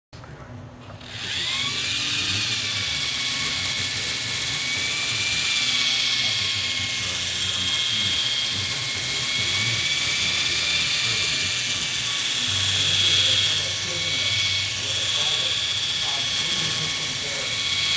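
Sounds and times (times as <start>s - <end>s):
rc helicopter motor whine: 1.0s - 17.9s.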